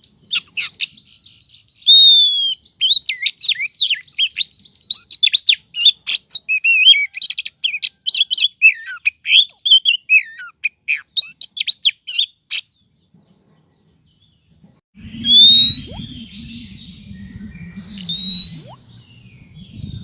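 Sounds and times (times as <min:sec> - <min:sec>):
bird chirps and whistles: 0:00.0 - 0:12.7, 0:15.0 - 0:20.0.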